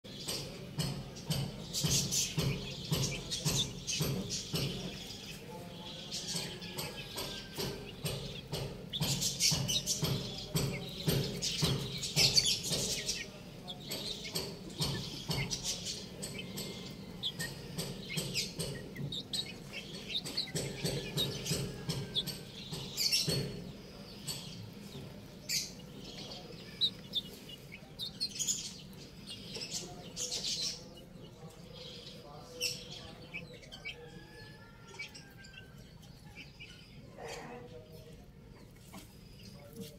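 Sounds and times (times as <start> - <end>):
chicks cheeping and chirping: 0.0 - 39.9
beaks pecking on concrete: 0.1 - 39.9.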